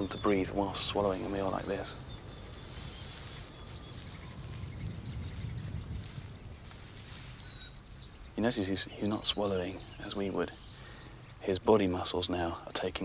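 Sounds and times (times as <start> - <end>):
faint high hiss: 0.0 - 13.0
insect chirps: 0.0 - 13.0
low rumble of wind: 0.0 - 13.0.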